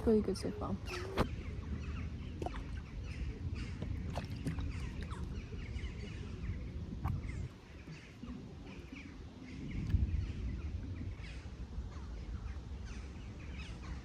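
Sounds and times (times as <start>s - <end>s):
birds calling: 0.0s - 14.0s
wind noise on microphone: 0.0s - 14.0s.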